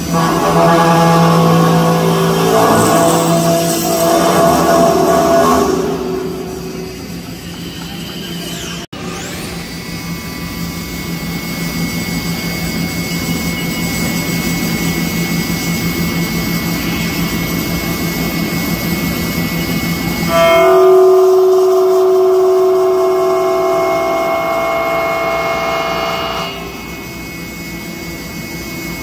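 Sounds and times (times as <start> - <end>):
ringing whine of cutting: 0.0 - 29.0.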